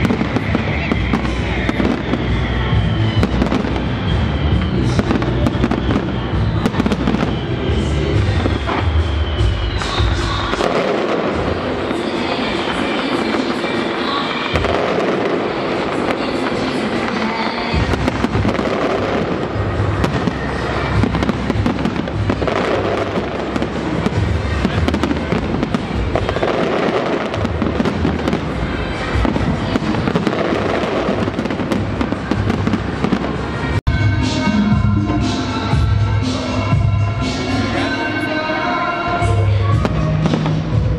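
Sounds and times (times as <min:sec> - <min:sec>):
deep fireworks booms: 0:00.0 - 0:33.7
fireworks crackles and bangs: 0:00.0 - 0:33.9, 0:39.2 - 0:40.9.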